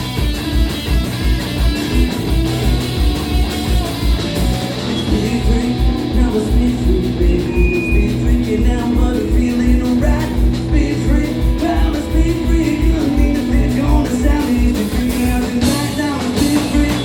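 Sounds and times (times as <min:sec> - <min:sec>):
bass guitar: 0:00.0 - 0:17.0
electric guitars: 0:00.0 - 0:17.0.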